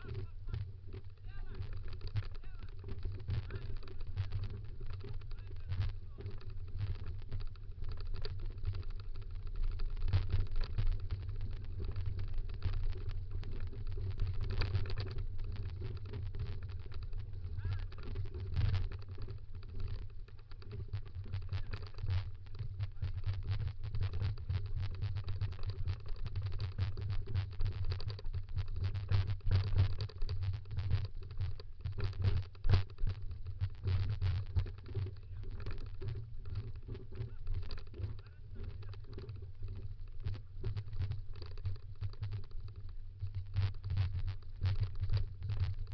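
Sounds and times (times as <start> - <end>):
scooter wheels rattling on dirt: 0.0 - 45.9
wind rumble on microphone: 0.0 - 45.9.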